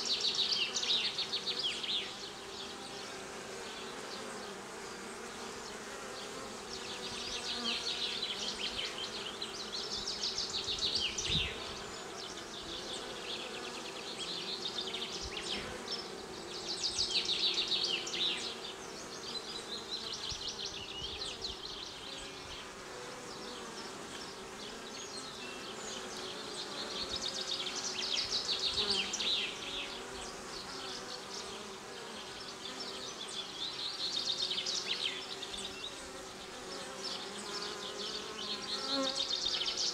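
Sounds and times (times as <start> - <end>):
bees humming at hive: 0.0 - 39.9.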